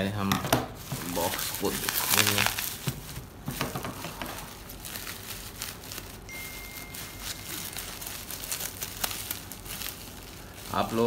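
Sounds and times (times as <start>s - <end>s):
bubble wrap crinkling: 0.7s - 11.0s.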